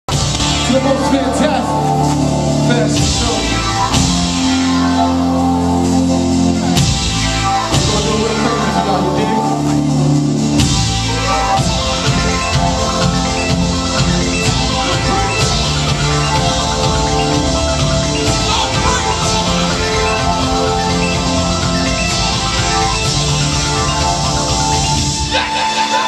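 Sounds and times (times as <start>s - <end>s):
live rock band playing: 0.1s - 26.0s.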